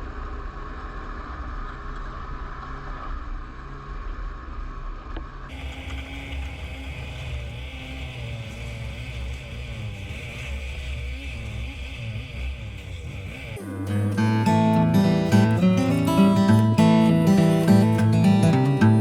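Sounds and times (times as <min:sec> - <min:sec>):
muffled vehicle engine running: 0:00.0 - 0:19.0.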